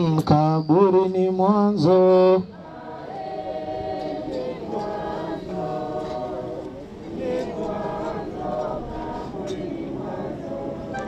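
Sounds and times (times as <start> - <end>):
group singing a slow hymn: 0.7 - 11.0.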